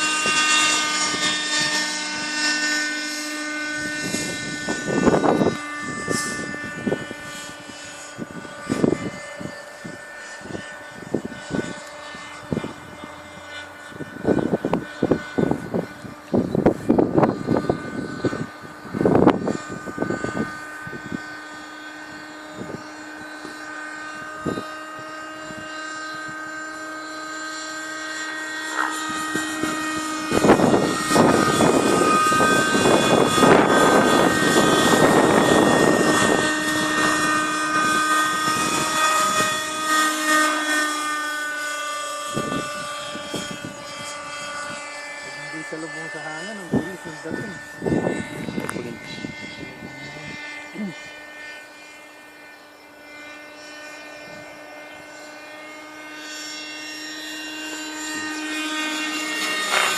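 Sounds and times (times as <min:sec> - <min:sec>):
model helicopter engine whine: 0:00.0 - 0:59.9
wind rumbling on microphone: 0:00.0 - 0:59.9.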